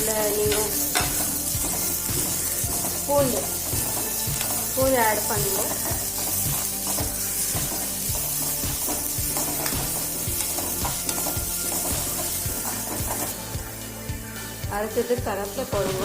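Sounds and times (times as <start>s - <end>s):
onions sizzling in oil: 0.0s - 16.0s
spoon scraping pan: 0.2s - 13.4s.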